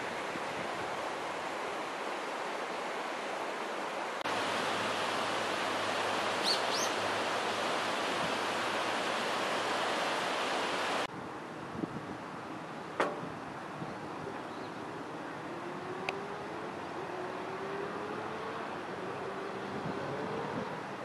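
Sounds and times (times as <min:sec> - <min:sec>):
river rushing: 0:00.0 - 0:21.0.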